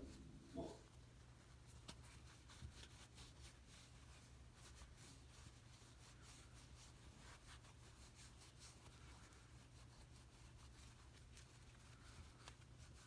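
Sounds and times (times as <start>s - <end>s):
low steady hum: 0.0s - 13.0s
polishing cloth rubbing: 0.0s - 13.0s.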